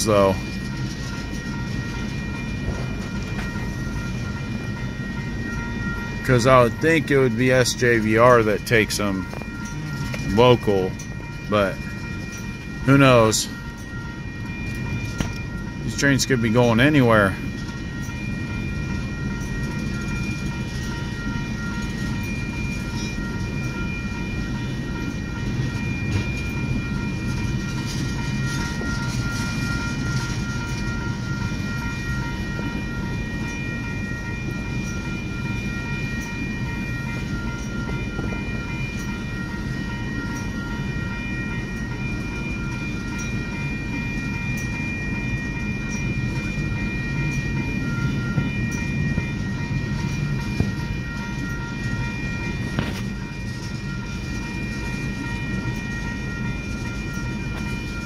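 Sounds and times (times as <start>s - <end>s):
steady high-pitched tones: 0.0s - 58.0s
train wheels rumbling on rail: 0.0s - 58.0s.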